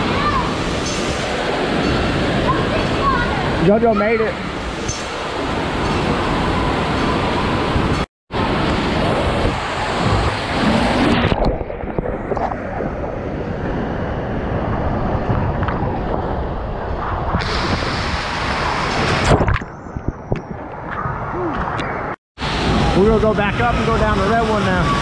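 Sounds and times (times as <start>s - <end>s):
water rushing: 0.0s - 19.6s, 22.0s - 25.0s.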